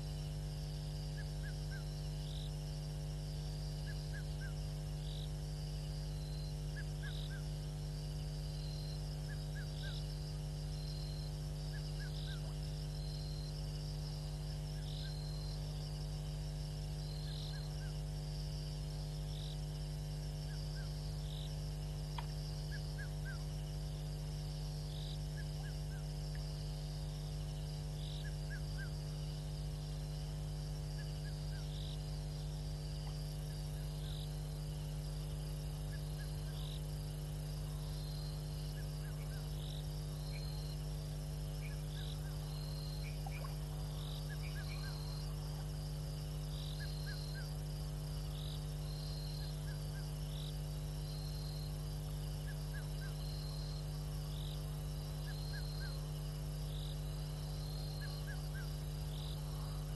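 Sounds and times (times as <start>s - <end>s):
insects chorus: 0.0s - 59.9s
low electrical hum: 0.0s - 59.9s.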